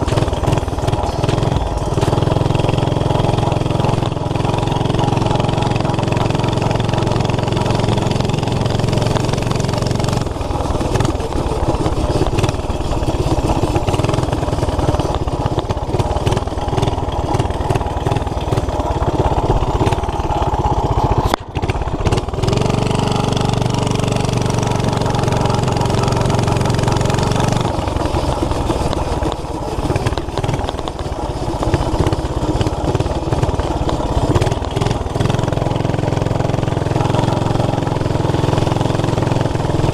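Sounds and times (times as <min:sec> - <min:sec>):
small engine revving loudly: 0:00.0 - 0:30.6, 0:31.7 - 0:39.9.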